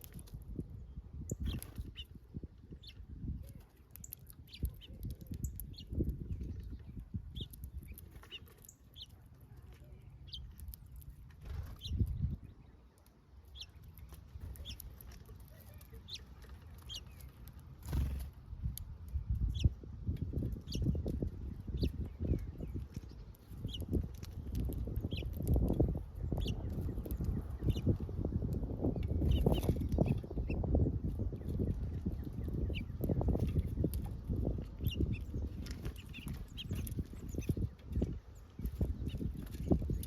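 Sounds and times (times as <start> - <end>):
garden birds chirping: 0.0 - 40.0.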